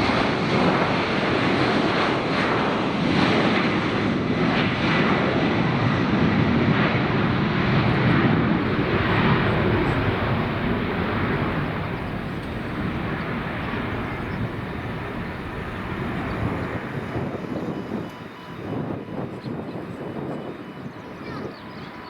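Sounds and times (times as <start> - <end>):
airliner engine noise: 0.0 - 22.0.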